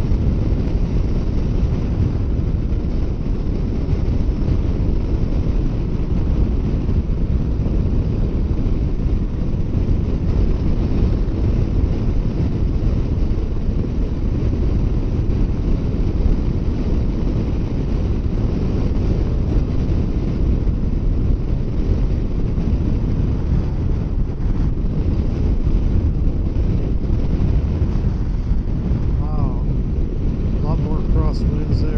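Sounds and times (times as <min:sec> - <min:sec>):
wind blasting over microphone: 0:00.0 - 0:31.9.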